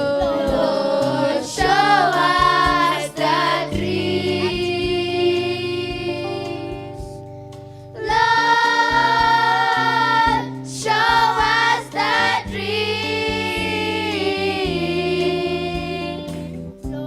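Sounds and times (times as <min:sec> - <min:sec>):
choir singing gospel: 0:00.0 - 0:17.0
instrumental backing: 0:00.0 - 0:17.0.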